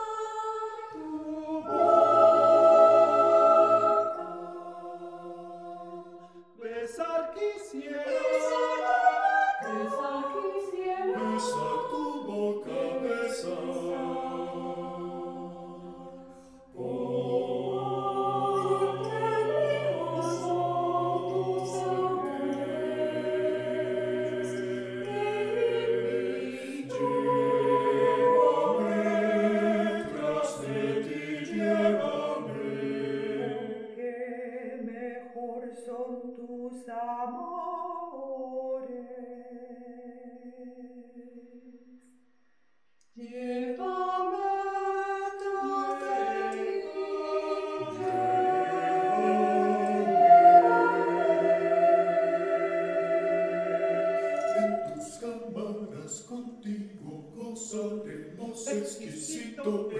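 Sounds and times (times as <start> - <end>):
mixed choir singing unaccompanied: 0.0 - 37.4, 43.2 - 59.9.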